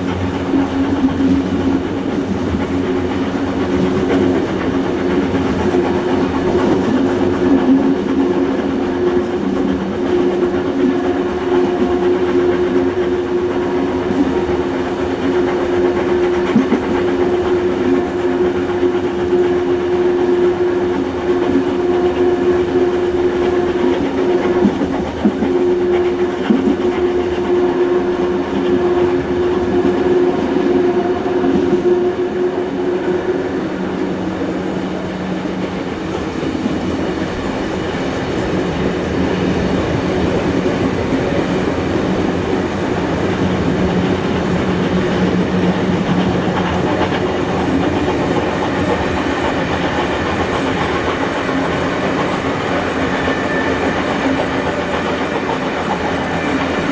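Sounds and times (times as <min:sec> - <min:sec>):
clickety-clack over rail joints: 0:00.0 - 0:56.9
train rolling noise: 0:00.0 - 0:56.9.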